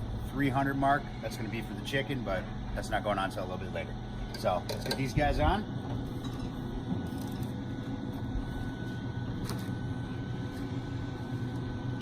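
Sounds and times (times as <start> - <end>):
high whine: 0.0 - 12.0
low mechanical hum: 0.0 - 12.0.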